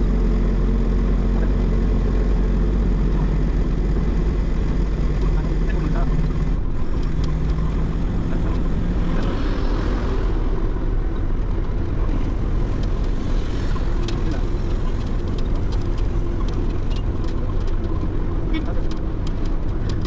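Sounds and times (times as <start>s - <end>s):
lorry engine and road drone: 0.0s - 20.0s.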